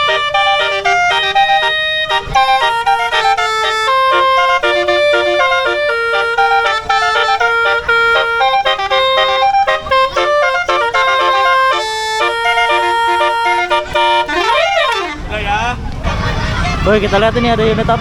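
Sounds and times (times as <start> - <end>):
musical air horn melody: 0.0 - 18.0.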